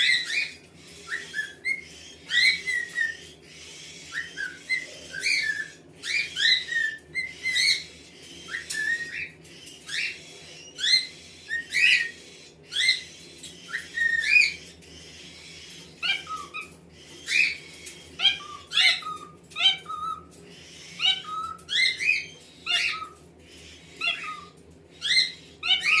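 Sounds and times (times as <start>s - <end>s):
cockatiels chirping: 0.0s - 26.0s.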